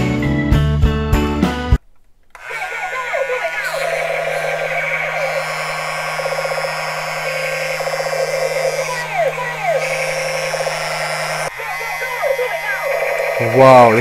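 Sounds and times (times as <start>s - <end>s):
small motor whirring: 2.4s - 14.0s
toy gun electronic sound effects: 2.4s - 14.0s.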